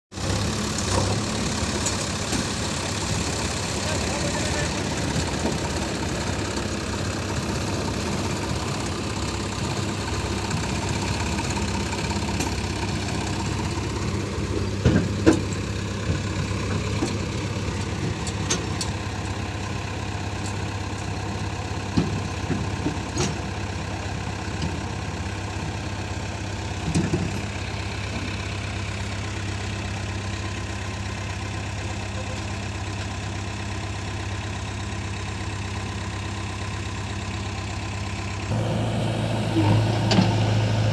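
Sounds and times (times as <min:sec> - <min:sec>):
diesel engine idling: 0:00.1 - 0:40.9.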